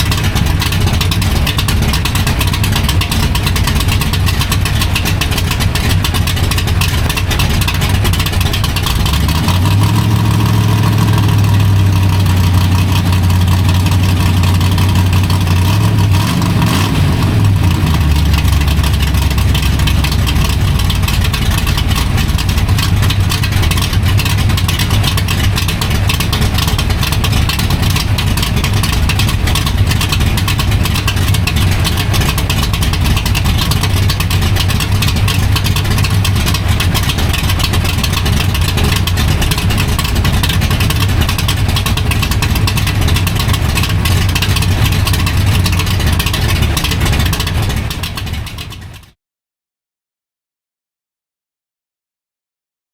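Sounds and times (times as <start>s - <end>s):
car engine exhaust note: 0.0s - 49.1s.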